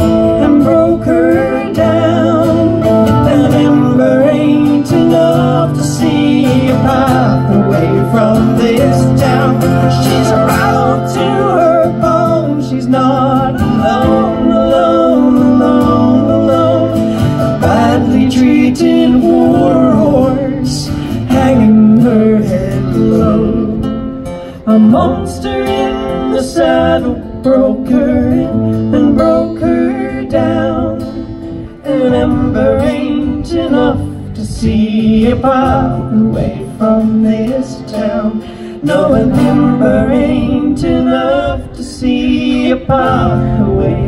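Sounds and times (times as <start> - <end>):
person singing: 0.0 - 24.0, 24.6 - 44.0
acoustic guitar: 0.0 - 44.0.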